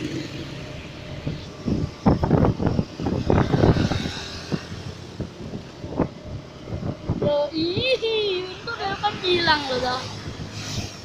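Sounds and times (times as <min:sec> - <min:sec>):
bus engine running: 0:00.0 - 0:10.5.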